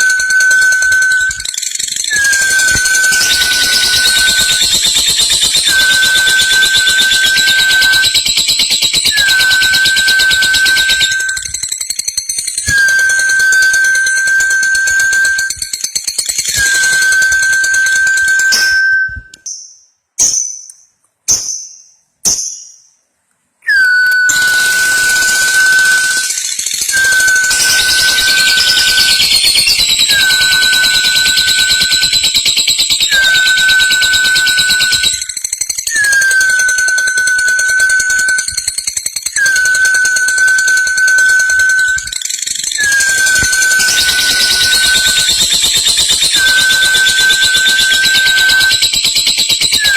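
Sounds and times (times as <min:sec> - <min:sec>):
high whistle-like tone: 0:00.0 - 0:19.8, 0:23.6 - 0:49.9.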